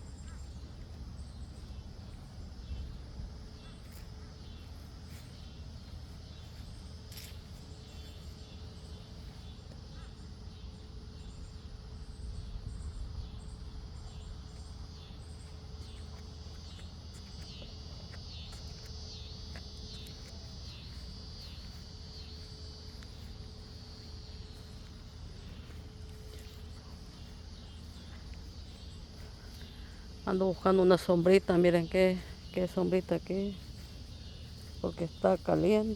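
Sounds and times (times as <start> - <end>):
insect pulsed call: 0.0 - 35.9
insects trilling: 0.0 - 35.9.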